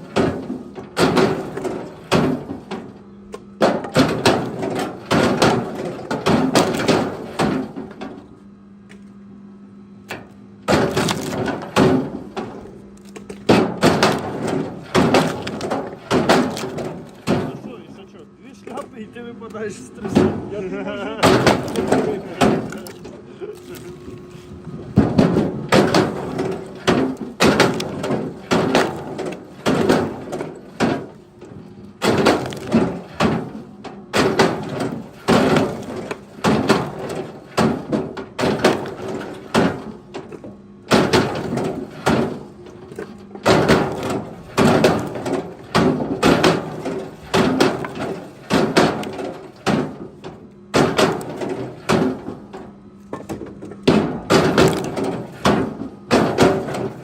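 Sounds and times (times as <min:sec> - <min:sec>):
firewood knocking and dropping: 0:00.0 - 0:08.3, 0:10.1 - 0:18.0, 0:20.0 - 0:57.0.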